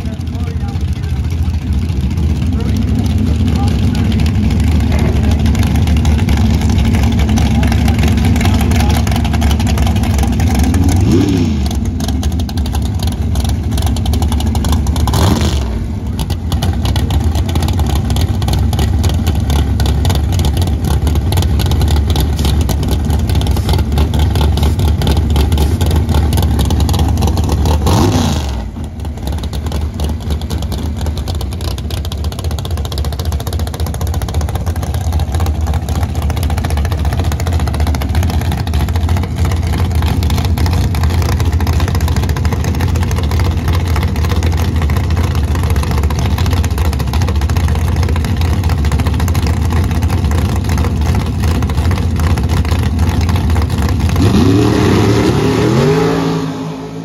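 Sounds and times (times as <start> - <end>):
dragster engine idling and revving: 0.0 - 57.0.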